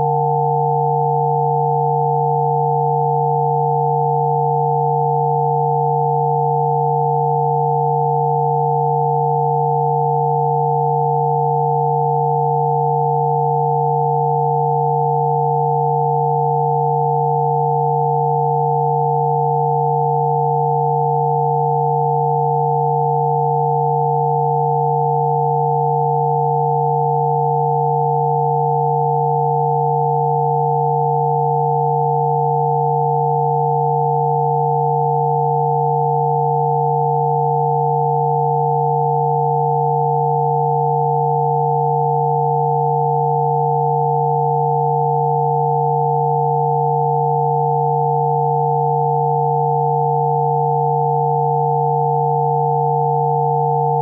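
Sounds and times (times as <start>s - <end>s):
electronic sine tones: 0.0s - 54.0s.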